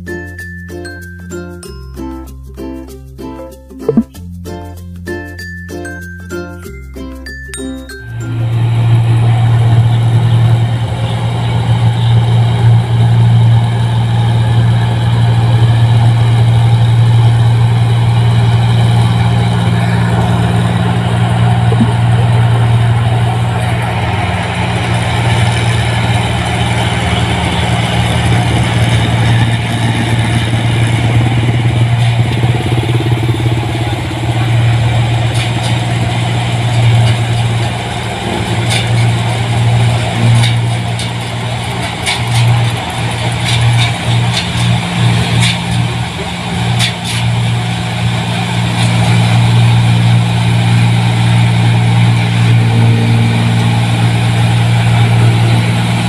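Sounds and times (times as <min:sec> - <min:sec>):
combine harvester engine drone: 0:07.9 - 0:56.0
machinery humming: 0:08.2 - 0:56.0.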